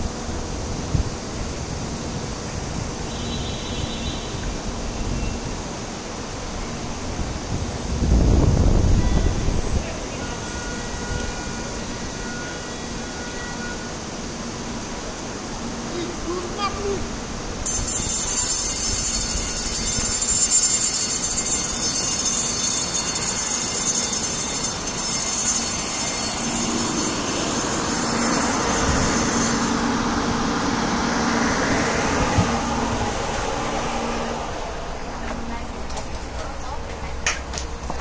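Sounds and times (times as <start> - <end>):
train rushing rumble: 0.0 - 13.1, 13.8 - 38.0.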